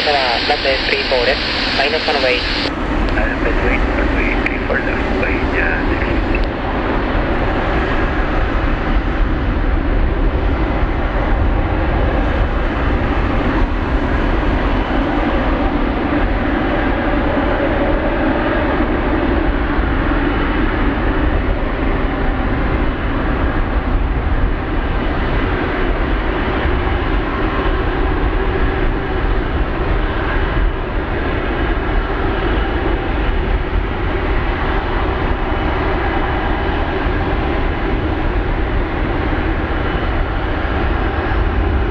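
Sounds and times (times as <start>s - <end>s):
jet engines roaring at takeoff: 0.0s - 41.9s.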